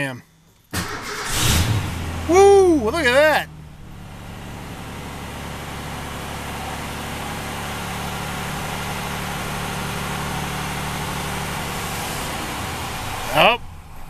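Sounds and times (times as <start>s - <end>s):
engine idling: 0.3s - 14.0s.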